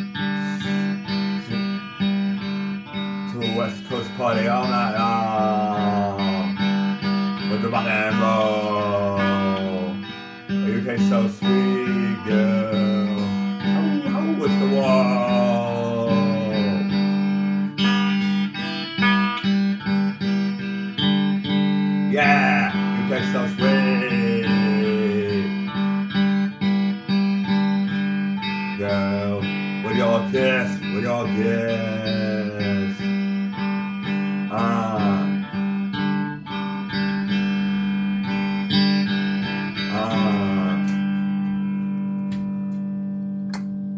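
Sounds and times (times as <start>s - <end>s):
electric guitar strumming chords: 0.0s - 43.9s.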